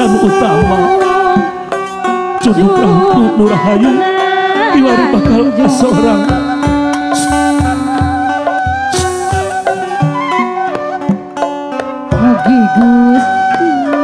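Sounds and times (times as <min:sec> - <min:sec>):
hand drum strokes: 0:00.0 - 0:14.0
ornamented sliding melody: 0:00.0 - 0:14.0.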